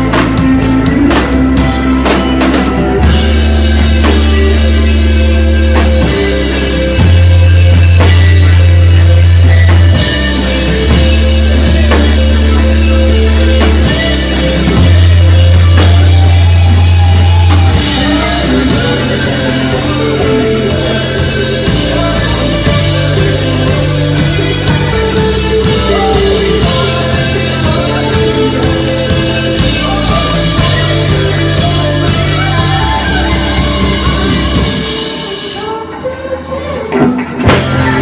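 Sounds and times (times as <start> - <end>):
heavy bass notes: 0.0 - 36.0, 37.4 - 38.0
live rock band playing: 0.0 - 38.0.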